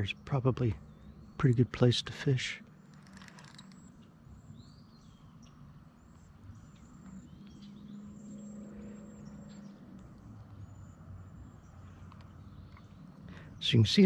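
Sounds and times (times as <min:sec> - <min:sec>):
bird calls: 0:00.0 - 0:14.0
birds chirping: 0:00.0 - 0:14.0
riverside ambience: 0:00.0 - 0:14.0.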